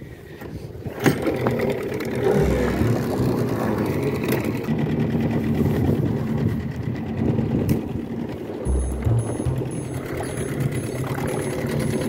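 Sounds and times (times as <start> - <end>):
outboard motor running: 1.2 - 12.0.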